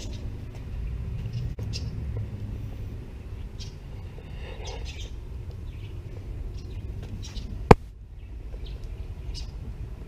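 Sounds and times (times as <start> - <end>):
birds chirping: 0.0 - 9.8
steady low rumble: 0.0 - 10.0.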